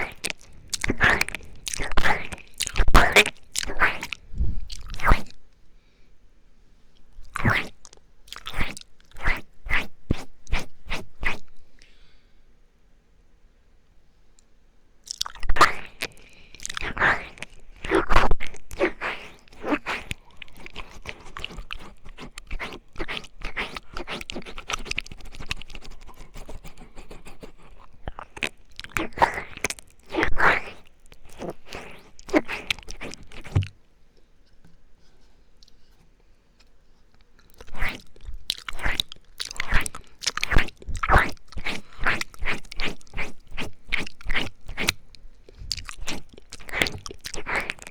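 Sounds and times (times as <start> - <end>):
wet mouth clicks and licking: 0.0 - 5.4, 7.2 - 11.5, 15.1 - 33.7, 37.4 - 47.9.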